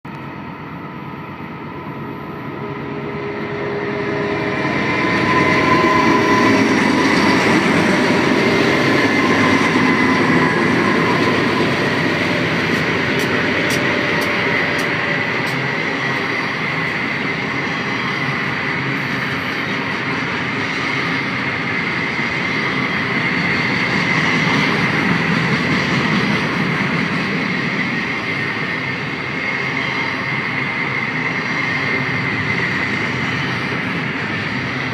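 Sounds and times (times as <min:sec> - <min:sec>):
freight train wheels on rails: 0:00.1 - 0:34.9
high-pitched rail squeal: 0:00.3 - 0:34.9.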